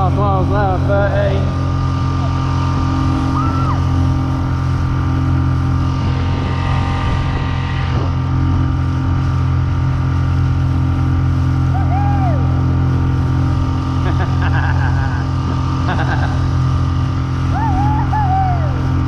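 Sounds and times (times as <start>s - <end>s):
outboard motor running: 0.0s - 19.0s
water rushing past boat: 0.0s - 19.0s
wind: 0.0s - 19.0s.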